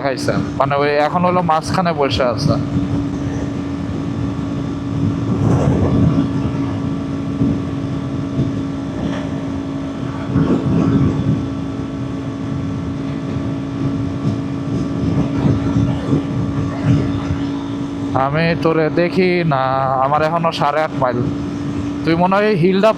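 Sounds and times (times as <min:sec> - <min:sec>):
gusty wind rush: 0:00.0 - 0:22.9
motorcycle engine cruising: 0:00.0 - 0:22.9.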